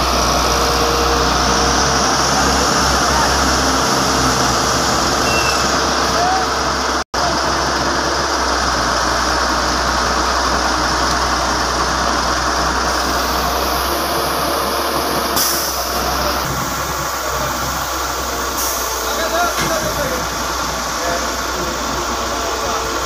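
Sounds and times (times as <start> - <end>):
dump truck engine running: 0.0 - 23.0
excavator diesel engine running: 0.0 - 23.0.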